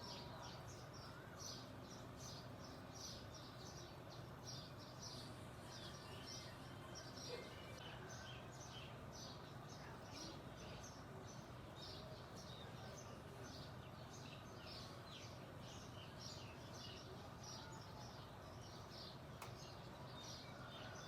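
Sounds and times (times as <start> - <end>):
songbirds chirping faintly: 0.0 - 21.0.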